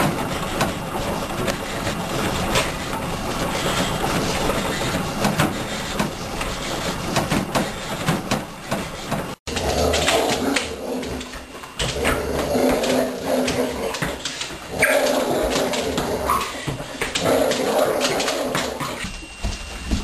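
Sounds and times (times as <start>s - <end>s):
exercise bike whirring: 0.0s - 20.0s.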